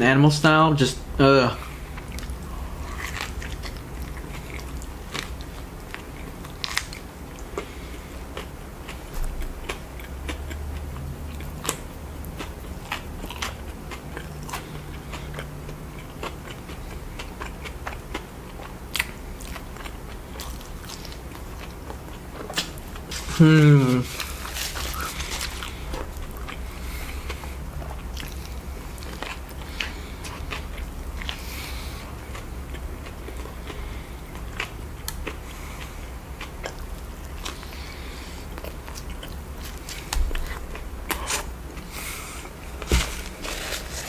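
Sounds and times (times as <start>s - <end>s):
person chewing a sandwich: 1.6s - 44.0s.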